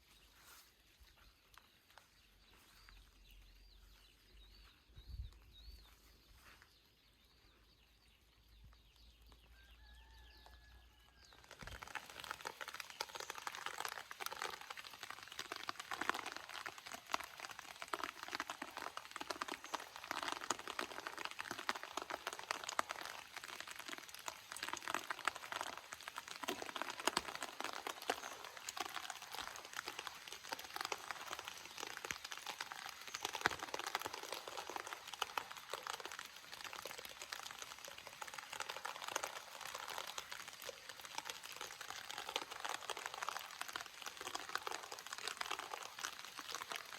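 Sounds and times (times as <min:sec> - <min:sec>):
steady rain falling: 0:07.6 - 0:46.9.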